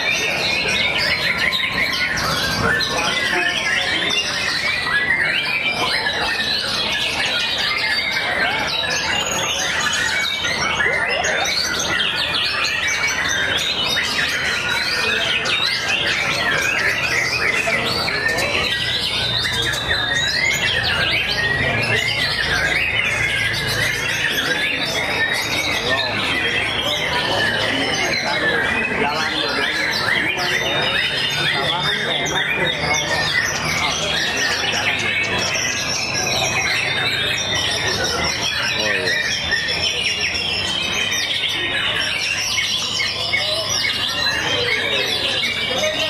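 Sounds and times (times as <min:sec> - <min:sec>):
chorus of birds singing: 0:00.0 - 0:46.0.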